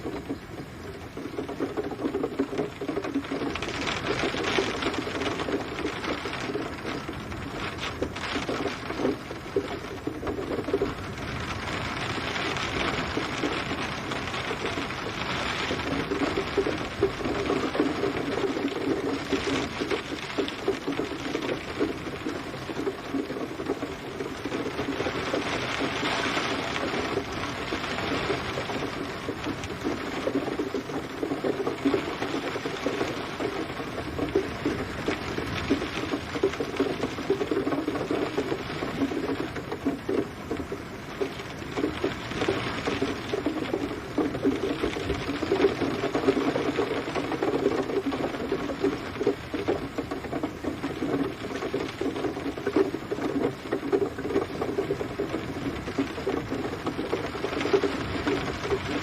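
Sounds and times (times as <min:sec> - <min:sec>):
rain pattering on hard surface: 0:00.0 - 0:59.0.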